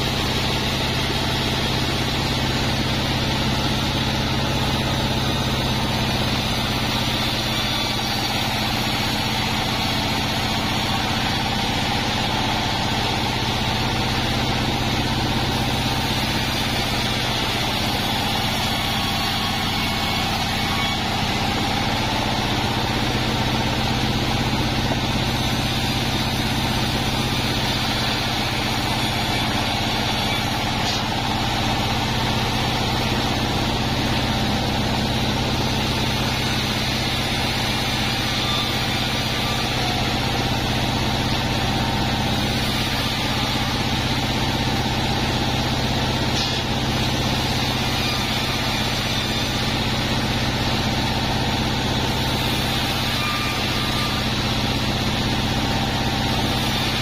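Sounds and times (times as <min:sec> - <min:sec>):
band saw cutting wood: 0:00.0 - 0:57.0.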